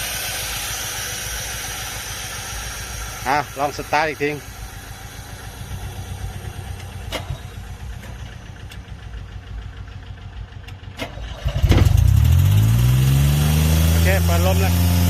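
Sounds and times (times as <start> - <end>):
diesel engine starting and revving: 0.0 - 15.0.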